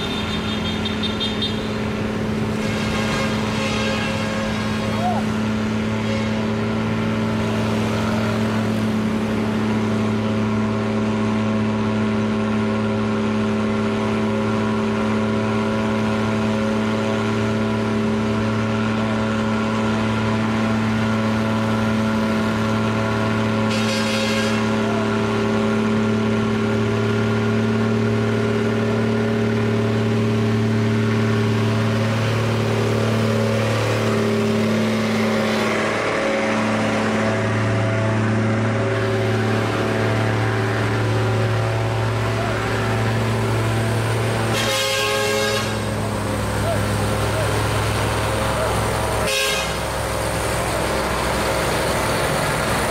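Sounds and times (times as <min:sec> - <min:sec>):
diesel trucks labouring uphill: 0:00.0 - 0:52.9.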